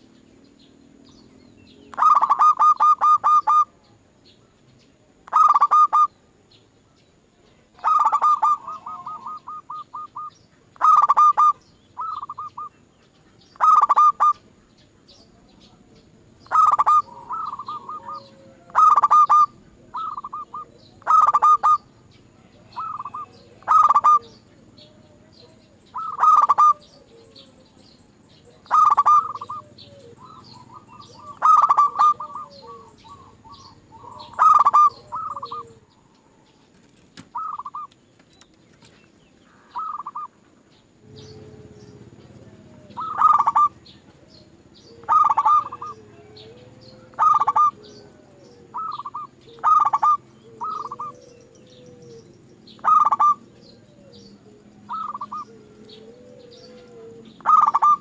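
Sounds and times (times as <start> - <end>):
dove cooing: 1.9 - 3.9, 5.2 - 6.2, 7.6 - 12.9, 13.6 - 38.0, 39.5 - 58.0.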